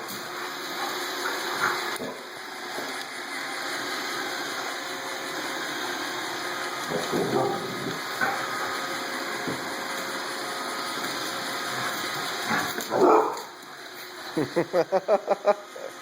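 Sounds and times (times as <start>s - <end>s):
robot vacuum whirring: 0.0s - 14.8s.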